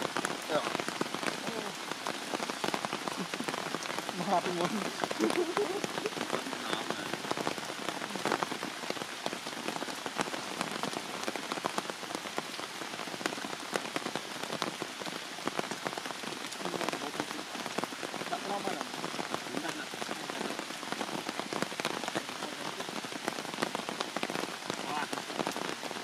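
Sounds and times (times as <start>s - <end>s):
heavy rain hissing: 0.0s - 26.0s
raindrops ticking: 0.0s - 26.0s.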